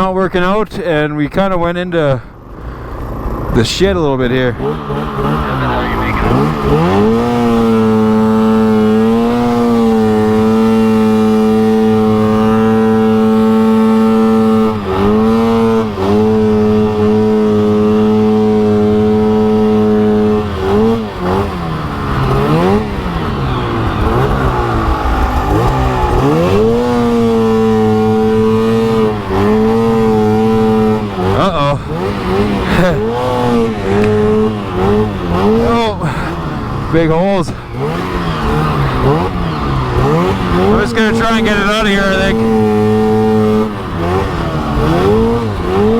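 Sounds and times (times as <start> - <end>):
snowmobile engine running hard: 0.0 - 45.9.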